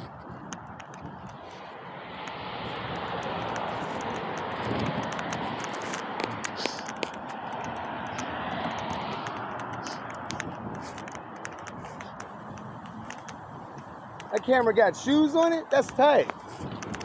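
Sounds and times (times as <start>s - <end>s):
road traffic passing: 0.0s - 17.0s
light clicks: 0.1s - 14.5s, 15.4s - 17.0s.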